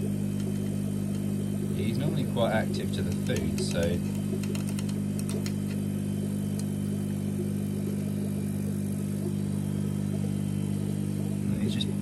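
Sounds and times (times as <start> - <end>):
air pump humming: 0.0 - 12.0.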